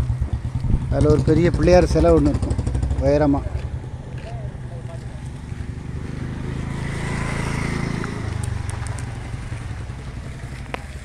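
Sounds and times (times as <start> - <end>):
motor scooter engine passing by: 0.0 - 11.0.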